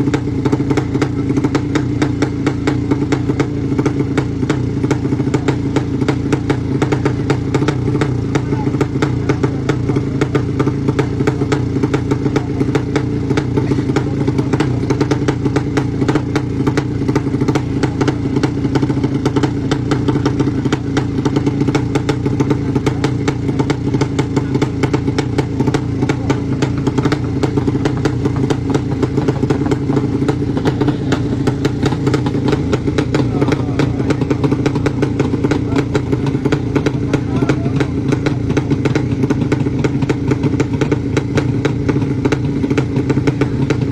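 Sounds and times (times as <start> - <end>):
racing motorcycle engine crackle: 0.0 - 43.9.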